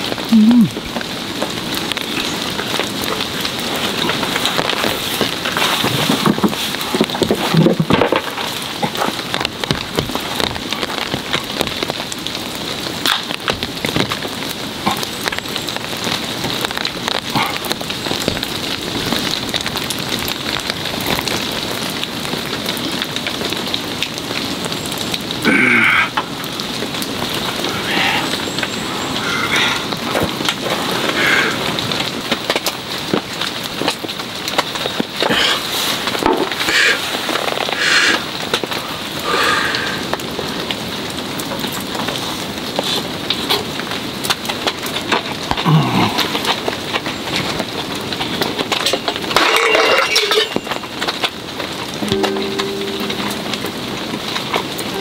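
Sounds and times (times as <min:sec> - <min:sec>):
heavy rain pattering on a tarp: 0:00.0 - 0:55.0.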